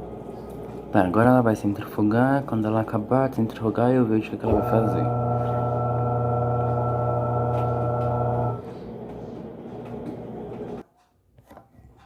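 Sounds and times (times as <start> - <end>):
washing machine humming: 0.0 - 10.8.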